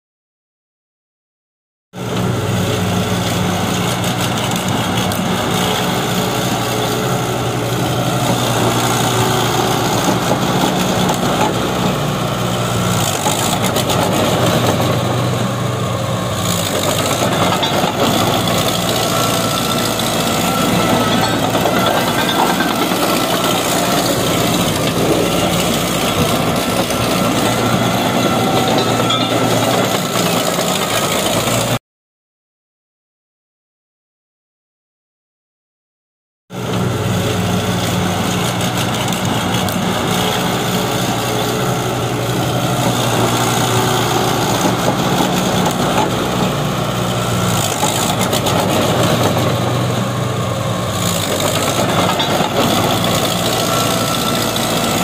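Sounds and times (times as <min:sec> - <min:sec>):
bulldozer diesel engine running: 0:02.0 - 0:31.8, 0:36.6 - 0:55.0.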